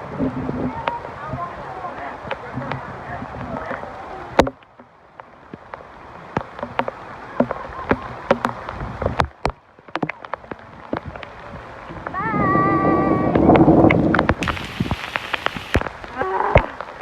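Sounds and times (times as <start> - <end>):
hiss of falling rain: 0.0 - 17.0
raindrops tapping near microphone: 0.0 - 17.0.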